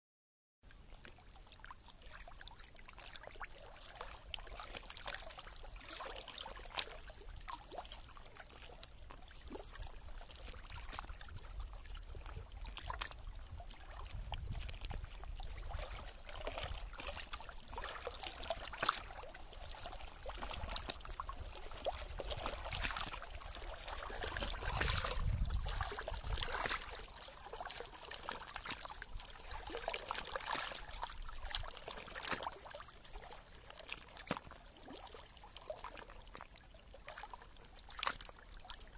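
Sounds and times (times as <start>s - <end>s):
water lapping over stones: 0.7s - 38.9s.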